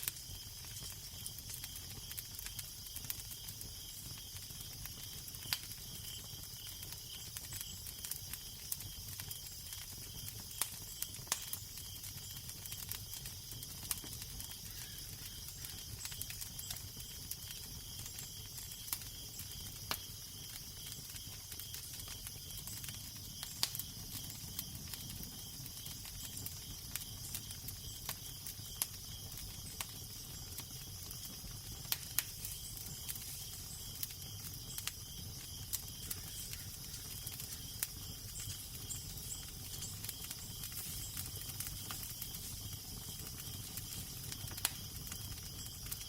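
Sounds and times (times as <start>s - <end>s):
fire crackling and popping: 0.0s - 46.0s.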